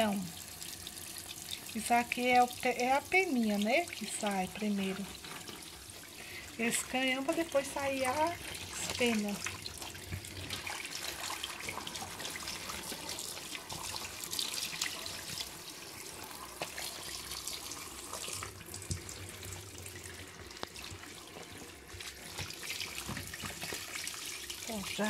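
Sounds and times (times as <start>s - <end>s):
tap water running into sink: 0.0s - 25.0s.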